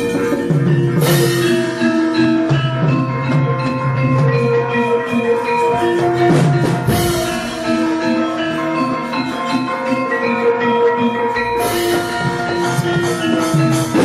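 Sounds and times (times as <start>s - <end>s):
gamelan playing: 0.0s - 14.0s.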